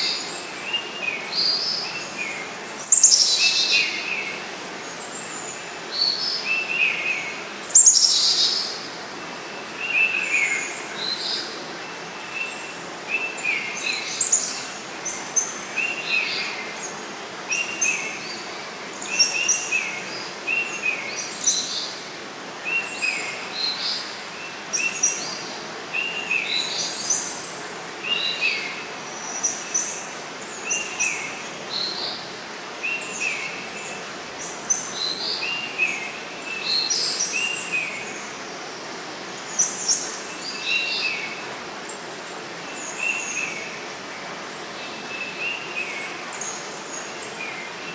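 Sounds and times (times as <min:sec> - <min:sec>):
faint steady hiss: 0:00.0 - 0:47.9.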